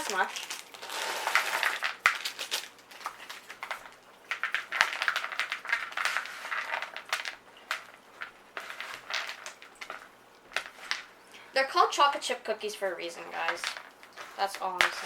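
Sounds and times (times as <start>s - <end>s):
chips pouring with small clicks: 0.0s - 11.2s, 13.2s - 15.0s
plastic bag crinkling: 0.0s - 11.5s, 12.8s - 15.0s.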